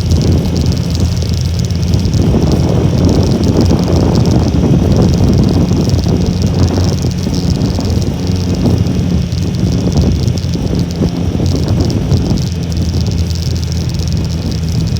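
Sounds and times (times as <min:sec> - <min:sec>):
small motorcycle engine running: 0:00.0 - 0:14.9
wind buffeting microphone: 0:00.0 - 0:14.9.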